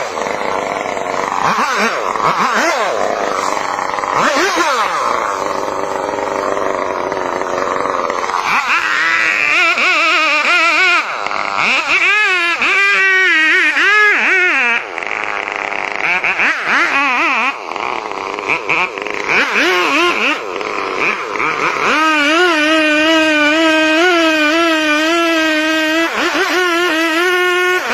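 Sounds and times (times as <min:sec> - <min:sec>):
chainsaw engine revving: 0:00.0 - 0:27.9.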